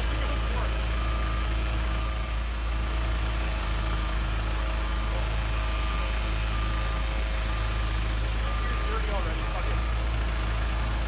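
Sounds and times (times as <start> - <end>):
fire truck engine idling: 0.0 - 11.0.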